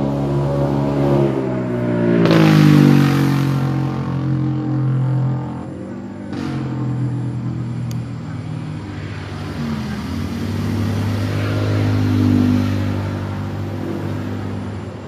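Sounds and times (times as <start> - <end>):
motor vehicle engine running: 0.0 - 15.0.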